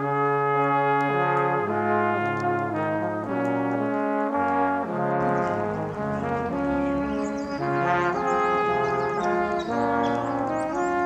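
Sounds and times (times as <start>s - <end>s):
slow brass-like chords: 0.0s - 11.0s.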